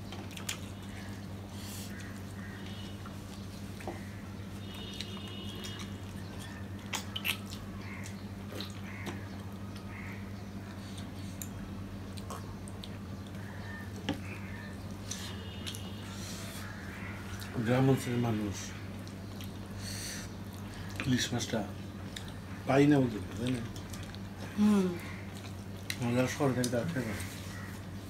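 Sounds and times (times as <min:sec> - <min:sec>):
wet squishing and chewing: 0:00.0 - 0:17.6, 0:18.7 - 0:22.6, 0:23.2 - 0:28.0
steady low hum: 0:00.0 - 0:28.0.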